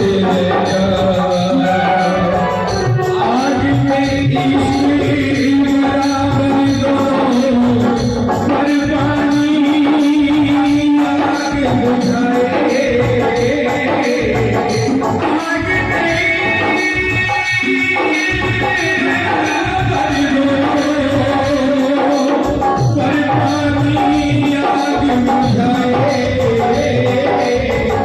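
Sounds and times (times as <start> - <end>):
held vocal melody: 0.0 - 28.0.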